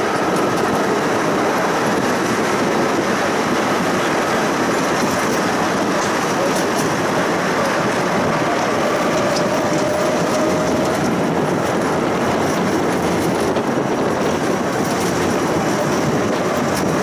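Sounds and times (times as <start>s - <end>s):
tram wheels rumbling on rail: 0.0s - 17.0s.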